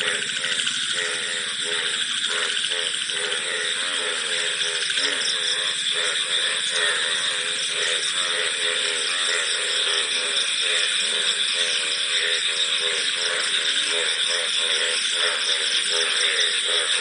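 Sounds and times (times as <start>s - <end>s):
crickets chirring: 0.0s - 17.0s
frogs calling: 0.0s - 17.0s.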